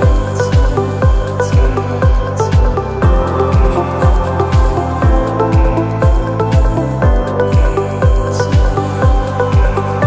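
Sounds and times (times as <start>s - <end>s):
held synth notes: 0.0s - 10.0s
kick drum beat: 0.0s - 10.0s.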